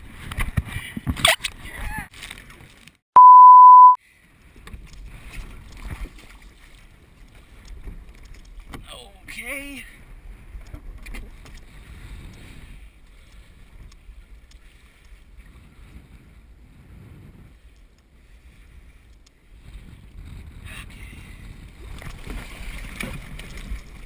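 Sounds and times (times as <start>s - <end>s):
water splashing along hull: 4.1s - 24.0s.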